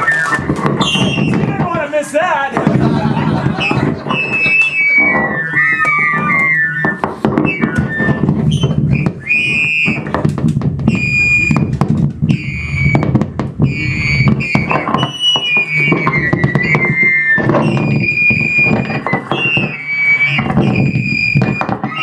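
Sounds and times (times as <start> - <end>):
high electronic squeals: 0.0 - 1.6, 3.5 - 10.1, 10.9 - 22.0
distorted crackling noise music: 0.0 - 22.0.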